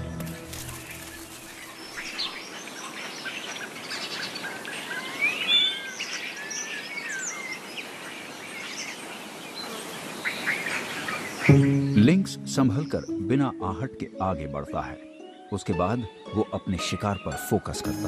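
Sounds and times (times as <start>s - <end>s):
small birds chirping: 0.0s - 18.0s
steady outdoor hiss: 0.0s - 18.0s.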